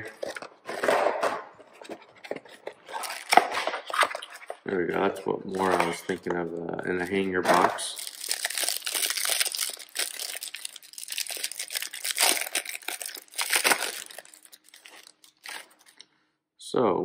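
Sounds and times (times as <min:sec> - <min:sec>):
plastic wrapper crinkling: 0:00.0 - 0:16.1.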